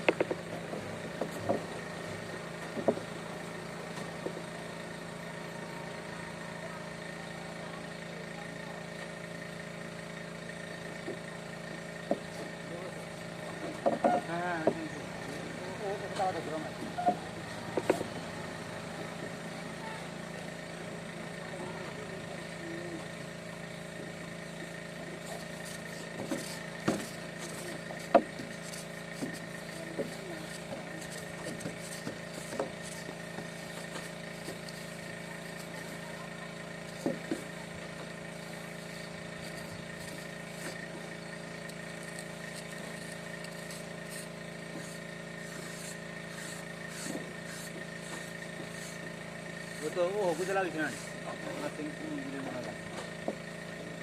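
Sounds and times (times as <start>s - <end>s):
engine hum: 0.0s - 54.0s.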